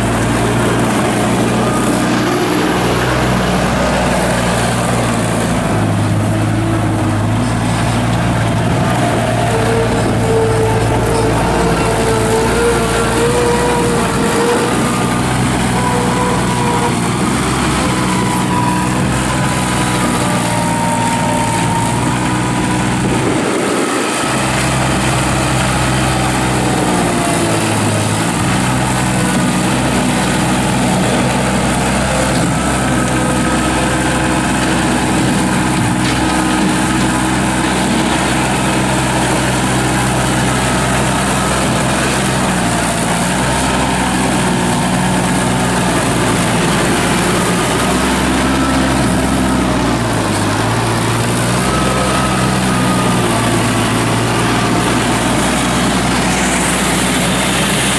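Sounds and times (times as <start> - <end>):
skid steer diesel engine running: 0.0 - 57.9.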